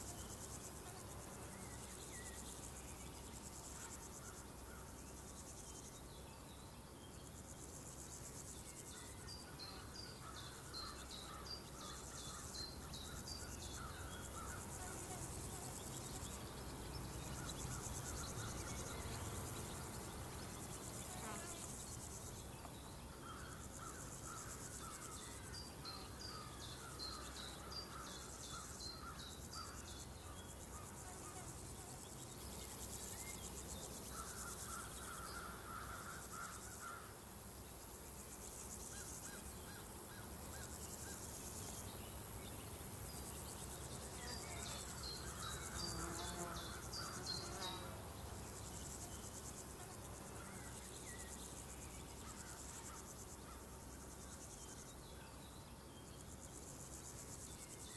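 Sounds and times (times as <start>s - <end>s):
crickets chirping: 0.0s - 57.9s
high insect drone: 0.0s - 57.9s.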